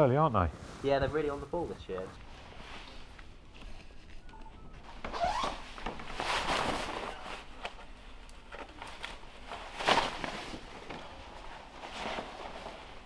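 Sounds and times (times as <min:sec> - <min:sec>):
clothing rustle: 0:00.3 - 0:13.0.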